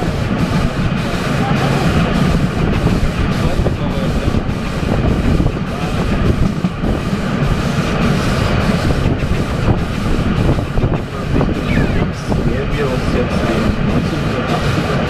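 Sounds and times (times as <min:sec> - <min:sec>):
train wheels rumbling on rails: 0:00.0 - 0:15.0
wind on microphone: 0:00.0 - 0:15.0.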